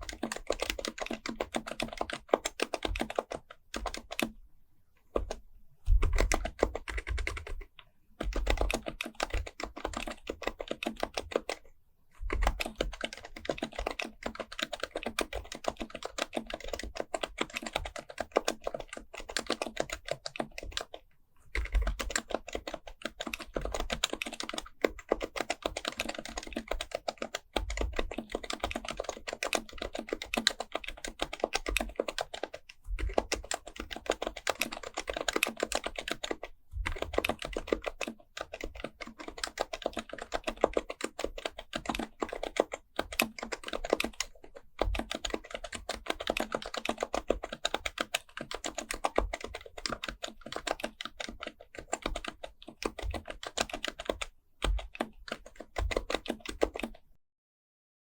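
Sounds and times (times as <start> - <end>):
fast typing on keyboard: 0.0 - 4.4, 5.1 - 57.1.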